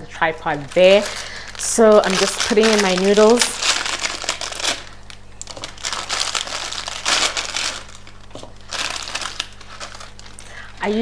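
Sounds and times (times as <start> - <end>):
plastic packet crinkling: 0.4 - 11.0.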